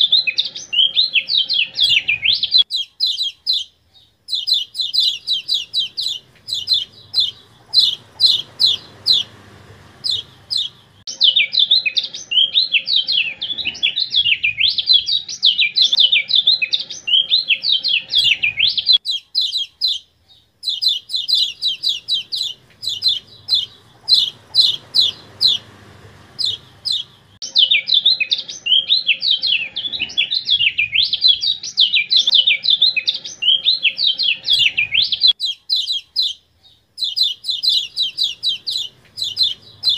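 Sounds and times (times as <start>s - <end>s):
fast twittering birdsong: 0.0s - 39.9s
sharp high bird chirps: 0.0s - 39.9s.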